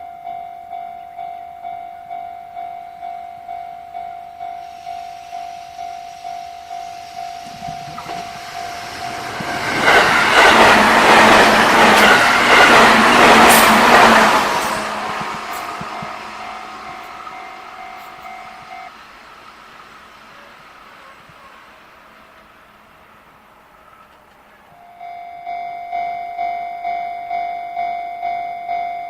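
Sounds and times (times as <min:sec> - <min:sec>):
level crossing warning bell: 0:00.0 - 0:19.3, 0:20.6 - 0:29.0
electric train passing: 0:00.0 - 0:29.0.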